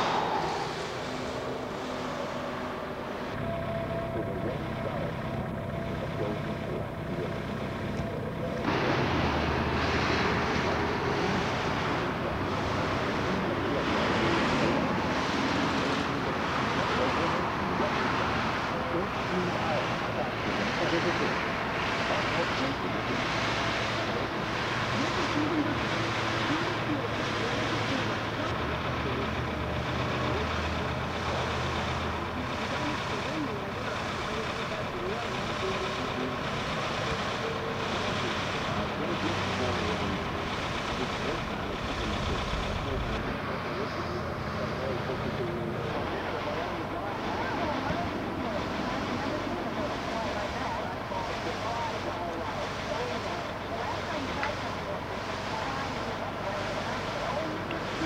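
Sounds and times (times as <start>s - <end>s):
cars passing: 0.0s - 58.0s
low engine drone: 0.0s - 58.0s
road traffic: 0.0s - 58.0s.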